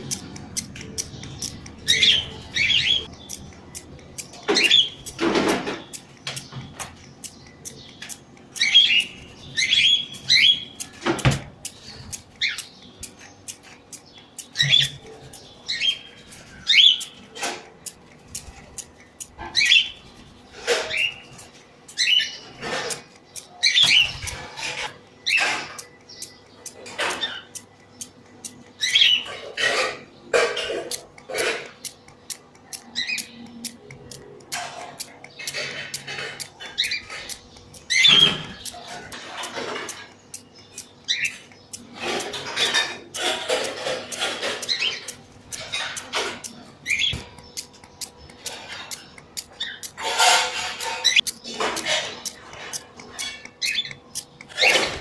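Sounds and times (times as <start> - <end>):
pet bird chirping: 0.0 - 55.0
sharp clicks: 0.0 - 55.0.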